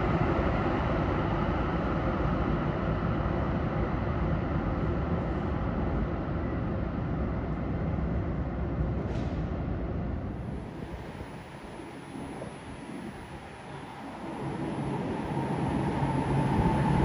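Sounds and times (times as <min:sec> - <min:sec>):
train rumbling in tunnel: 0:00.0 - 0:17.0.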